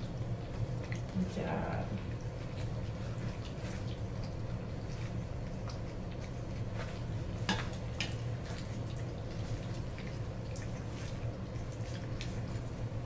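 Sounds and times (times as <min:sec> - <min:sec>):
puppies lapping and smacking: 0:00.0 - 0:13.0.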